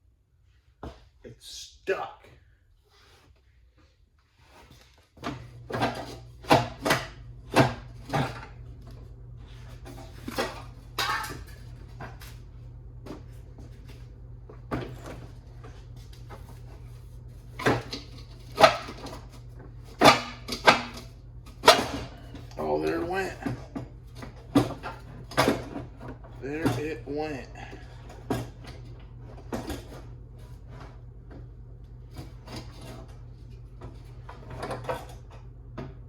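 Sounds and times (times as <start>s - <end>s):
steady low hum: 4.7s - 36.0s.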